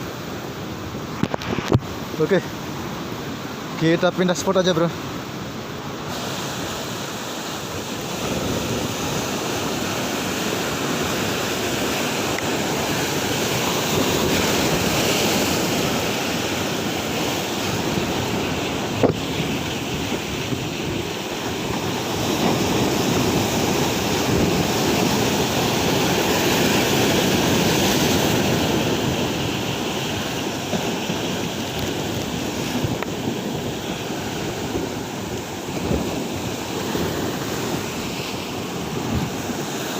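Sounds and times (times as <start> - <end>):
heavy surf washing in: 0.0 - 39.9
wind on microphone: 6.0 - 39.9.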